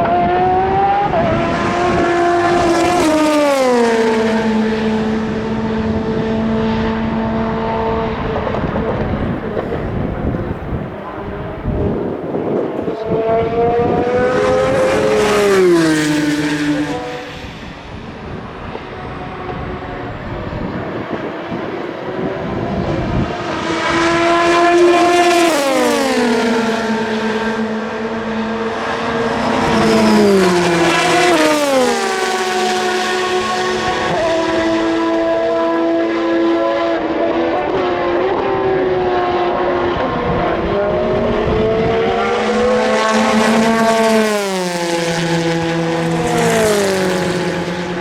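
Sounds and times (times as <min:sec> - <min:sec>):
race cars passing at speed: 0:00.0 - 0:48.0.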